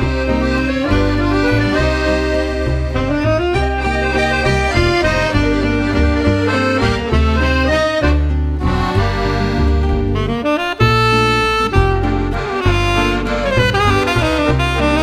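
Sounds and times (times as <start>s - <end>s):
accordion melody: 0.0s - 15.0s
bass line: 0.0s - 15.0s.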